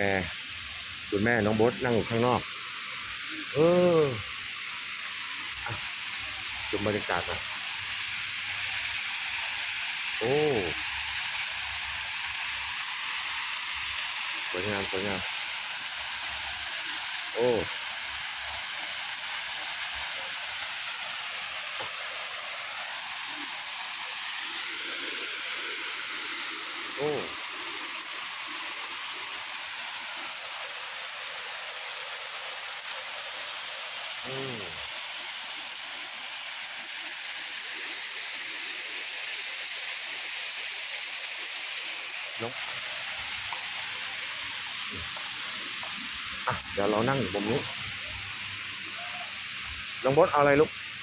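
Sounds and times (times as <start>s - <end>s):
waterfall splashing over rocks: 0.0s - 51.0s.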